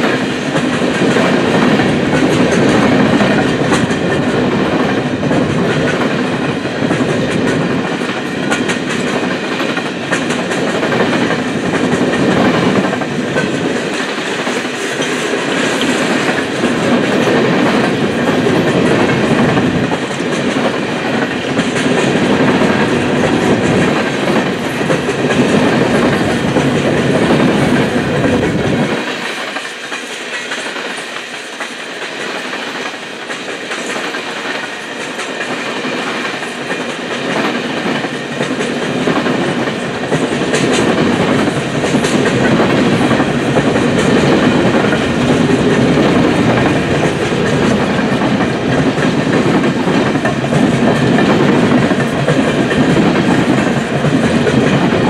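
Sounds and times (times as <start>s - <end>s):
train wheels rolling on rails: 0.0s - 55.0s
wheels clacking over rail joints: 0.0s - 55.0s.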